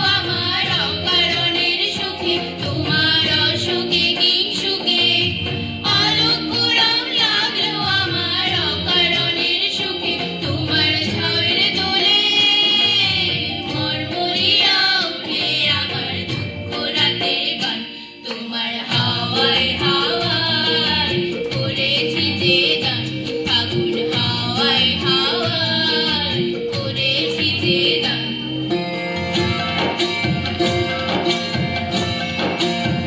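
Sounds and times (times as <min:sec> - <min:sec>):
women singing together: 0:00.0 - 0:28.5
instrumental accompaniment: 0:00.0 - 0:33.0.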